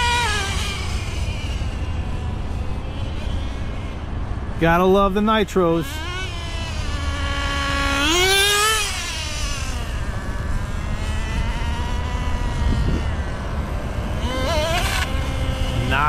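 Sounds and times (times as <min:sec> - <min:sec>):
small model engine whining: 0:00.0 - 0:16.0.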